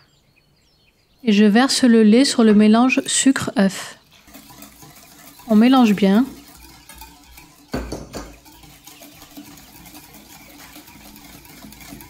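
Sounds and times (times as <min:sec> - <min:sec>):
utensil stirring in a mixing bowl: 0:01.4 - 0:12.0.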